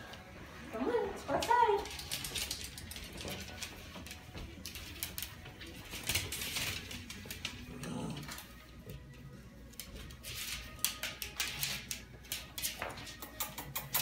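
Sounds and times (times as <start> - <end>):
dog claws clicking on wood floor: 1.3 - 9.0, 9.7 - 14.0.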